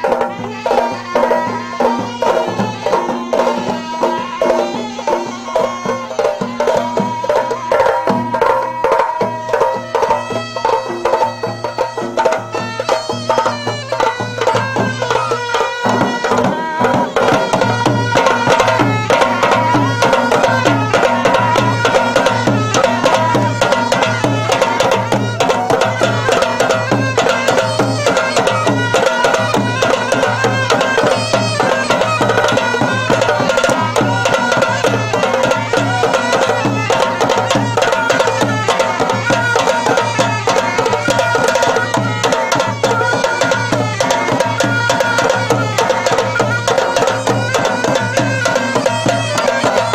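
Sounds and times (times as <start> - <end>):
fast driving drumming: 0.0 - 49.9
folk dance music: 0.0 - 49.9
held melody line: 0.0 - 49.9.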